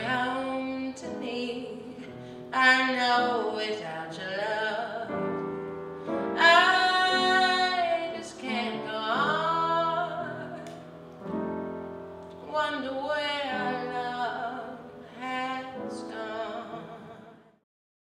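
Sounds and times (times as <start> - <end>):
woman singing a ballad: 0.0 - 11.0, 12.3 - 17.6
piano accompaniment: 0.0 - 17.4.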